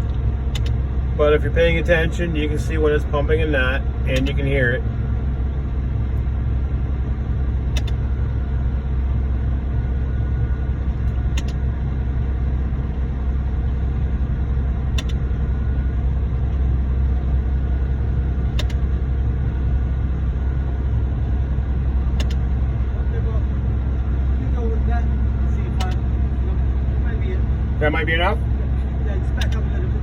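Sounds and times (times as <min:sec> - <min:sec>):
diesel engines rumbling: 0:00.0 - 0:30.0.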